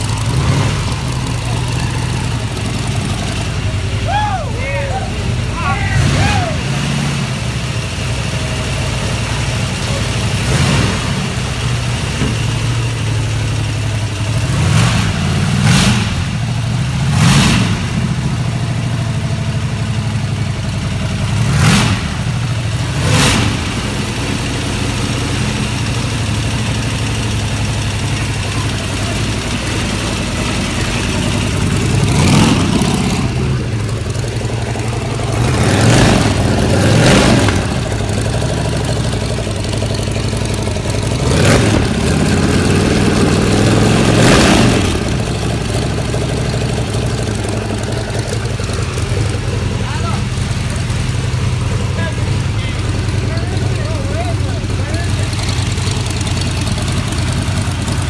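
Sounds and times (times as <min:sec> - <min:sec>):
radial engine idling: 0:00.0 - 0:15.6, 0:17.9 - 0:58.0
engine throttle blips: 0:00.0 - 0:58.0.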